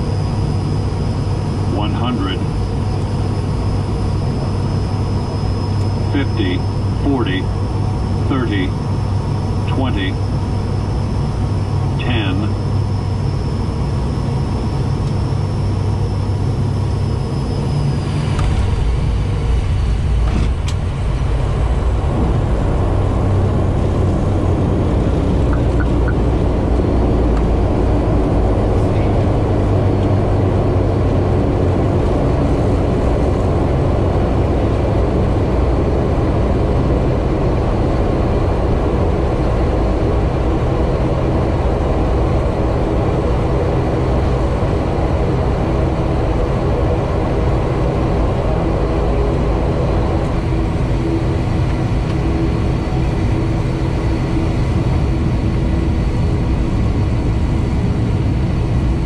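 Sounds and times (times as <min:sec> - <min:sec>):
turboprop engine drone: 0:00.0 - 0:59.0.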